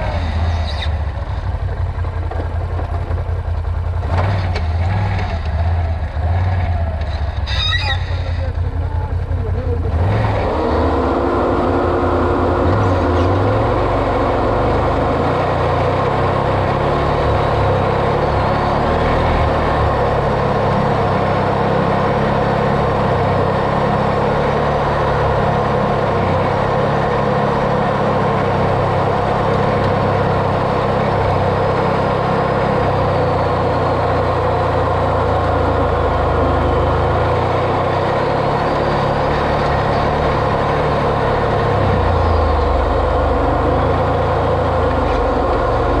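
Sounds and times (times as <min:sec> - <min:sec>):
off-road vehicle engine droning: 0:00.0 - 0:46.0.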